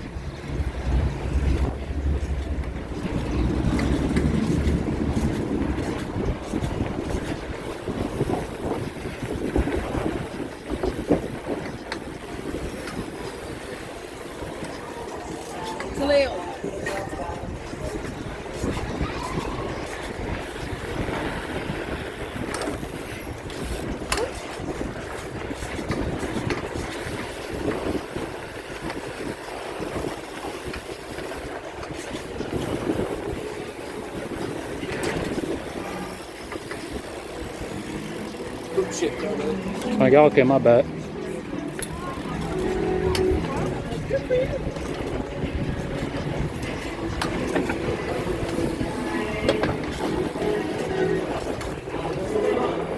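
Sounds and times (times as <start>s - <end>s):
bicycle road noise rumbling: 0.0s - 52.9s
wind buffeting microphone: 0.0s - 52.9s.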